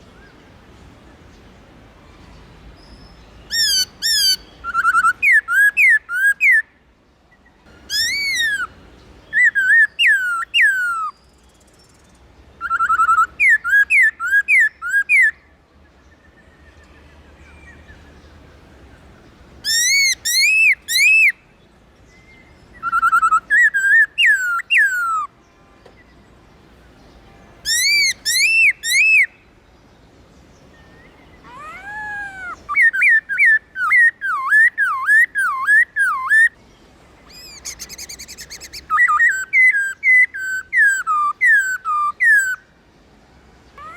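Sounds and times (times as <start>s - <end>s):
bird singing whistled notes: 2.8s - 6.8s, 7.4s - 18.4s, 19.6s - 26.3s, 27.0s - 29.6s, 30.6s - 36.6s, 37.3s - 42.7s.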